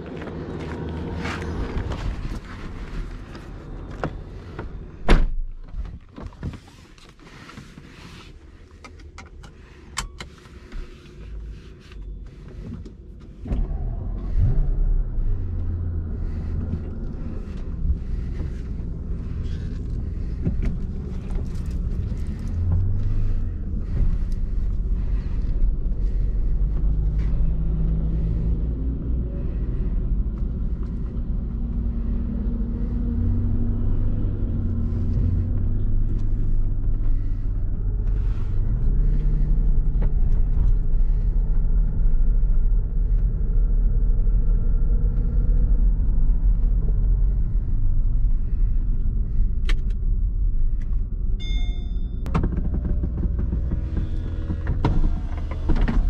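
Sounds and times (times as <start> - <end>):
car engine starting and running: 0.0 - 56.0.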